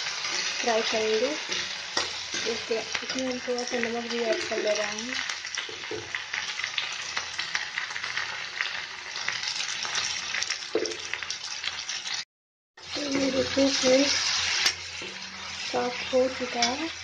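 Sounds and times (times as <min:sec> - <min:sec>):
vegetables sizzling in oil: 0:00.0 - 0:12.2, 0:12.8 - 0:17.0.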